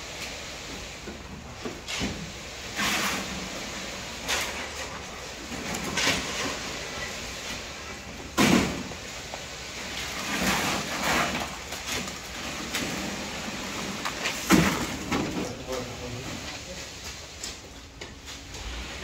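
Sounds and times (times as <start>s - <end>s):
wet concrete pouring from hose: 0.0s - 17.4s.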